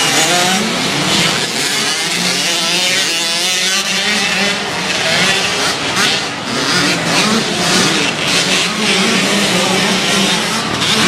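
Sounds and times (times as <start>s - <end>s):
motocross bikes revving: 0.0s - 11.0s.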